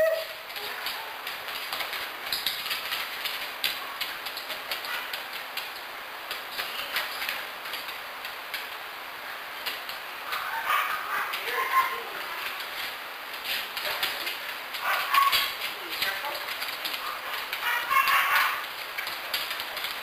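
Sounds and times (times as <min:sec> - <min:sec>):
steady hiss: 0:00.2 - 0:20.0
dog claws clicking on wooden floor: 0:00.3 - 0:08.8, 0:11.2 - 0:20.0.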